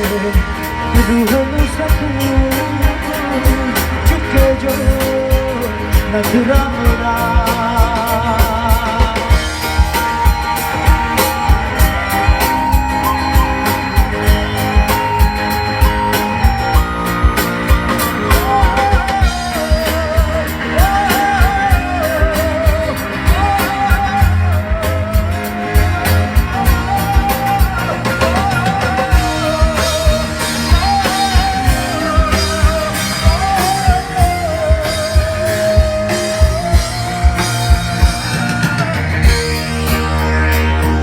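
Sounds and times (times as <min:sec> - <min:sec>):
bass: 0:00.0 - 0:41.0
drum kit beat: 0:00.0 - 0:41.0
lead melody with vibrato: 0:00.0 - 0:41.0.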